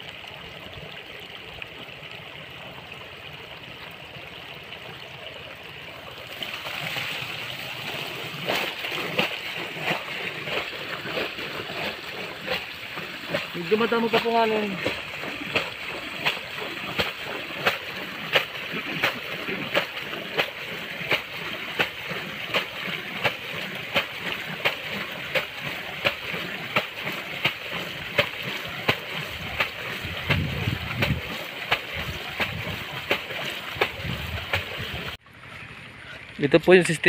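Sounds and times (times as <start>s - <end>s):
splashing in shallow water: 4.6s - 37.0s.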